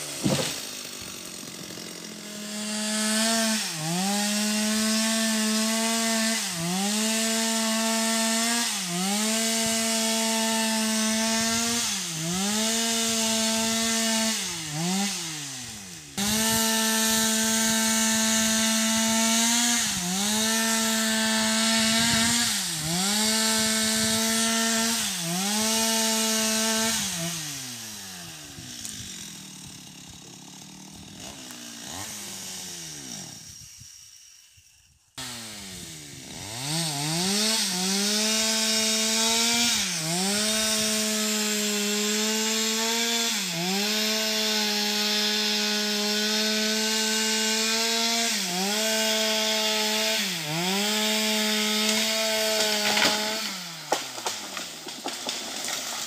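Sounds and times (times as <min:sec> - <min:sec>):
chainsaw cutting through trunk: 0:00.0 - 0:56.0.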